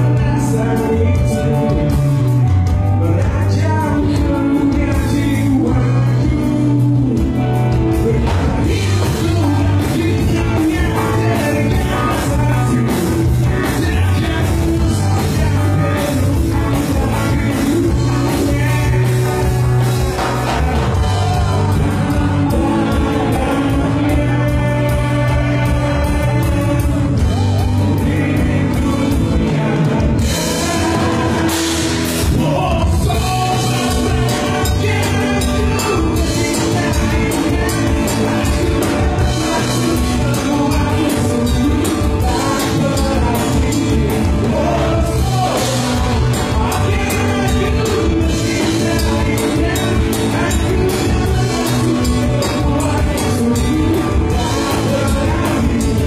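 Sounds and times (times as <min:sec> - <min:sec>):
drums: 0:00.0 - 0:56.0
electric guitars: 0:00.0 - 0:56.0
man singing: 0:00.0 - 0:56.0.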